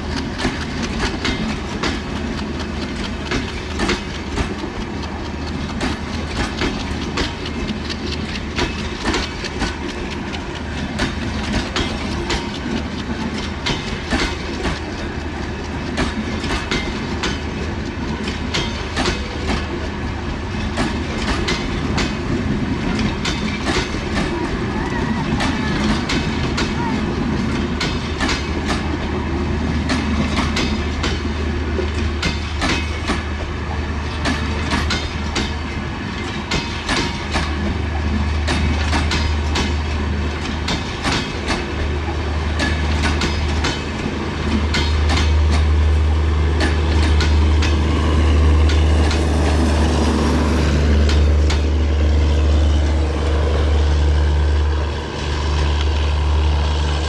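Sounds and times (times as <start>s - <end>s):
low train rumble: 0.0s - 57.0s
train wheels clacking over rail joints: 0.0s - 57.0s.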